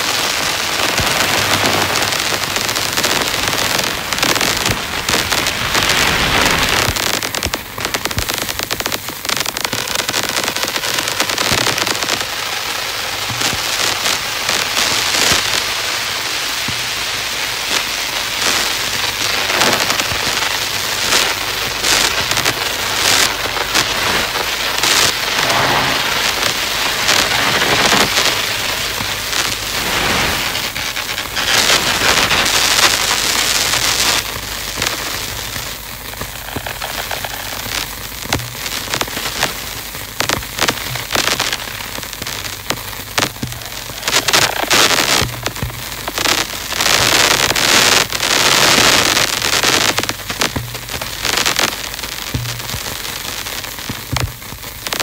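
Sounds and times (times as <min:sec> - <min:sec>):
electroacoustic clicks over hiss: 0:00.0 - 0:55.0.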